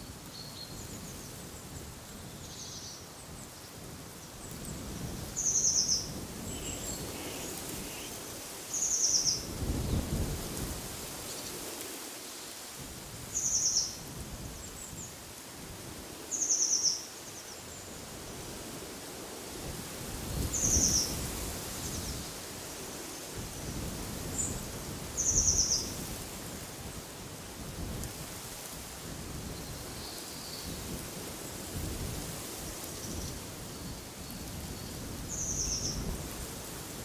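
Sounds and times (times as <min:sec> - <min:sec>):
wind through trees: 0:00.0 - 0:37.0.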